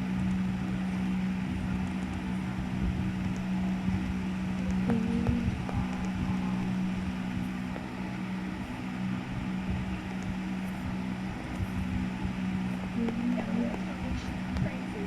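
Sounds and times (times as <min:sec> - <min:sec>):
ceiling fans humming: 0:00.0 - 0:15.0.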